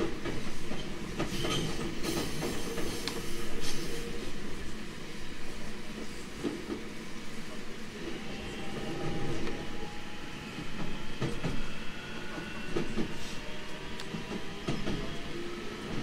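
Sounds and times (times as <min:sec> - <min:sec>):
electric train rumble with whine: 0:00.0 - 0:16.0.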